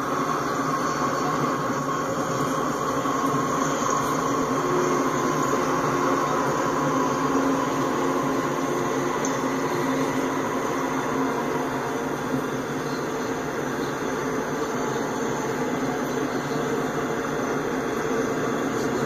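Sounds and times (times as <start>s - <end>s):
diesel locomotives passing: 0.0s - 19.0s.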